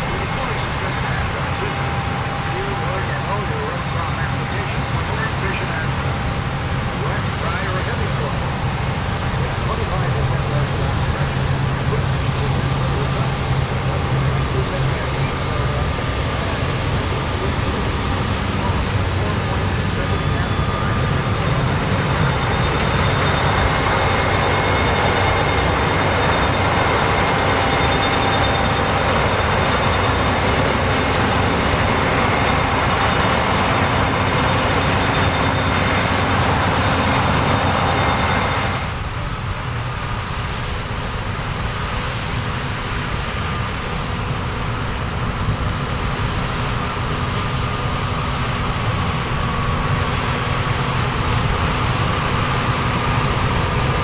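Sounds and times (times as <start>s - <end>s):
combine harvester drone: 0.0s - 54.0s.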